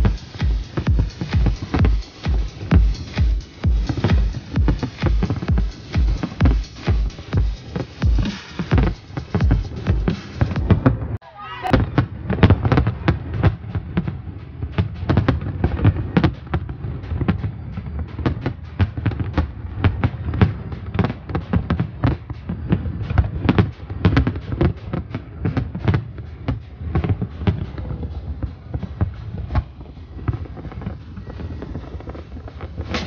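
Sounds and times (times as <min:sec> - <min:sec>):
fireworks bangs and crackles: 0:00.0 - 0:33.0
low fireworks booms: 0:00.0 - 0:33.0.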